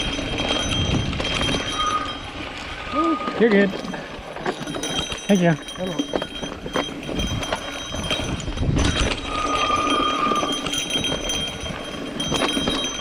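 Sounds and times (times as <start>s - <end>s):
mountain bike rattling on rocks: 0.0s - 13.0s.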